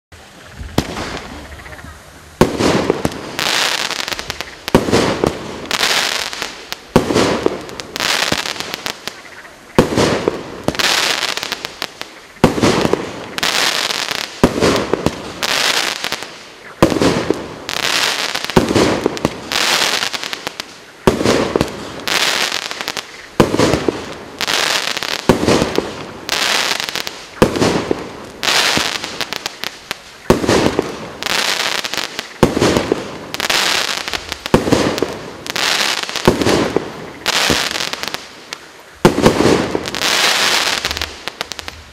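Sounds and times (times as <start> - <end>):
fizzing crackling firework tails: 0.2 - 41.9
firework shots: 0.6 - 41.9.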